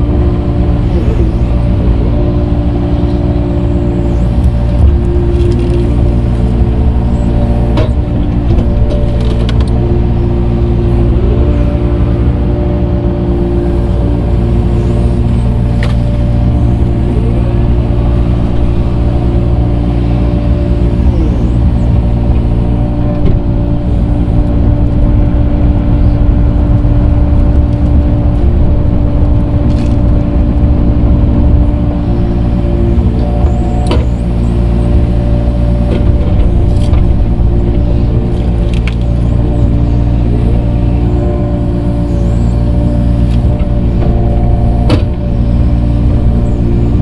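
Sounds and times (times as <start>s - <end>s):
tractor engine rumbling: 0.0s - 47.0s.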